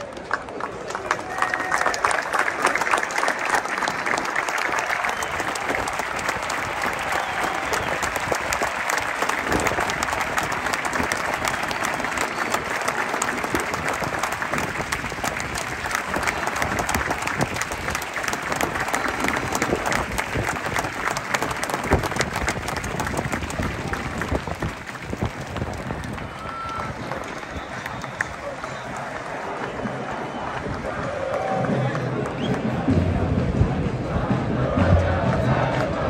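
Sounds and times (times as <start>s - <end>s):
stadium crowd applauding: 0.0s - 33.6s.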